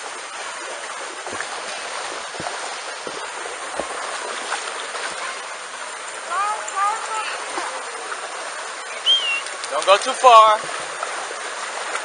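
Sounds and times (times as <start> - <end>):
small water splashes: 0.0 - 12.0.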